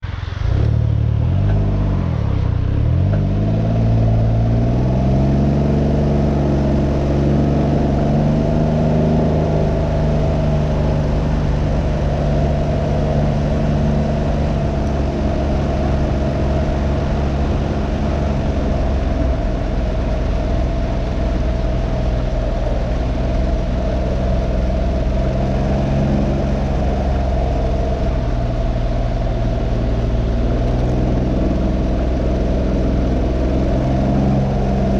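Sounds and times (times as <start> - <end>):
three-cylinder engine pulling away: 0.3 - 34.9
wind rushing over microphone: 5.2 - 34.9.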